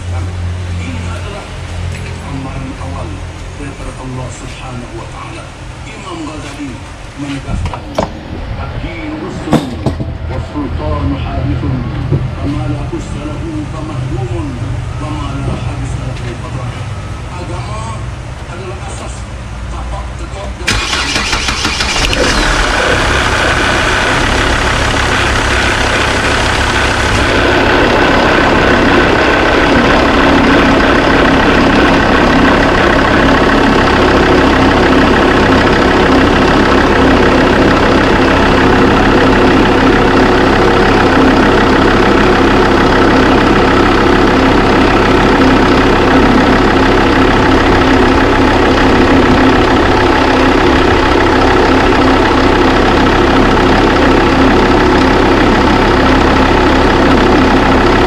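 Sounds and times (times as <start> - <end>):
car engine idling: 0.0 - 58.0
mid-pitched hum: 0.0 - 58.0.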